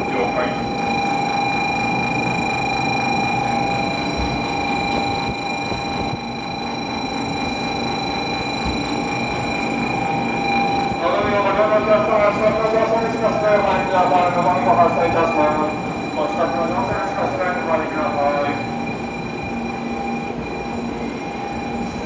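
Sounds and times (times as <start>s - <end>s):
platform departure bell ringing: 0.0s - 22.0s
station crowd noise: 0.0s - 22.0s.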